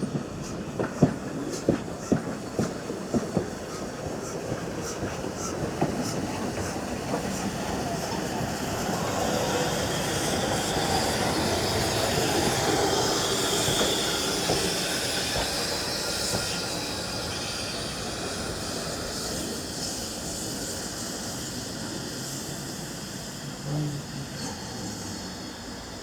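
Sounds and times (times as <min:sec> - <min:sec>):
train wheels squealing on rails: 0:00.0 - 0:26.0.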